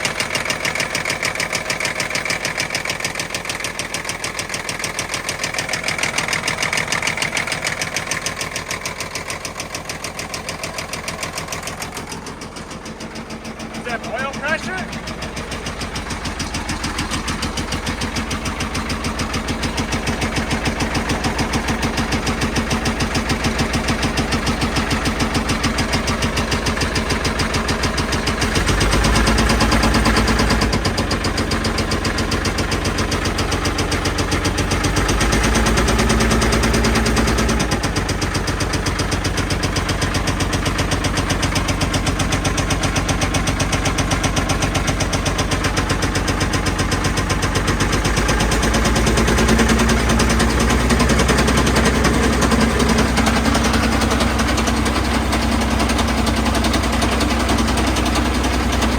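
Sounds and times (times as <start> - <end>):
diesel engine idling and revving: 0.0 - 58.9.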